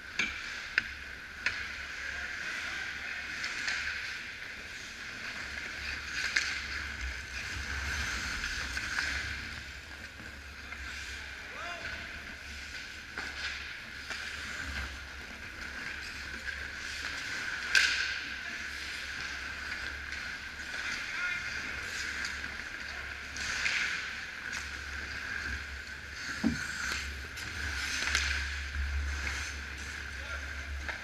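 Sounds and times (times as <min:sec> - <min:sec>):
skate blades scraping ice: 0:00.2 - 0:31.0.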